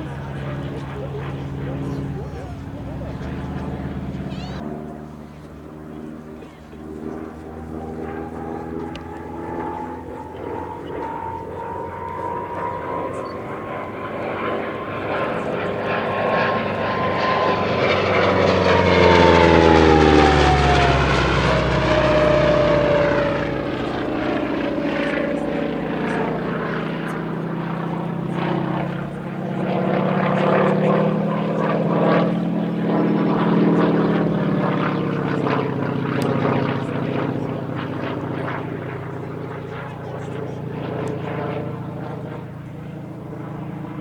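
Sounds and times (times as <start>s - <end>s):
engine drone and propeller whine: 0.0s - 44.0s
propeller plane flying past: 0.0s - 44.0s.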